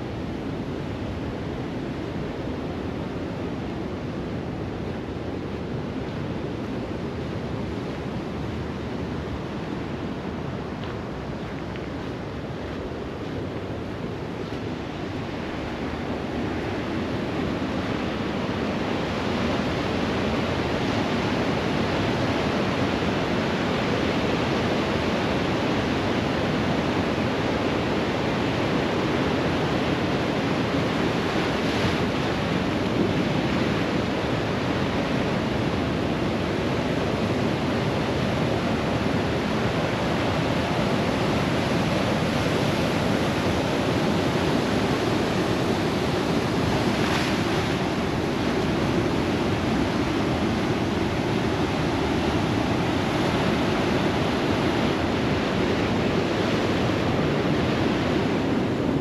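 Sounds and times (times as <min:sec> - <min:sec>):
surf washing over rocks: 0:00.0 - 0:59.0.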